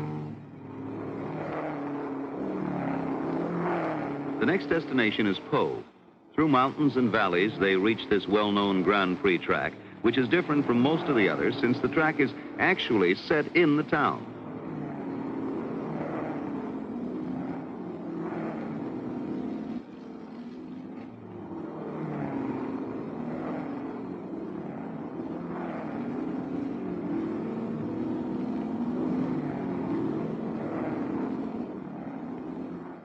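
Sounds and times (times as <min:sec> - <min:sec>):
racing car engines revving: 0:00.0 - 0:33.0.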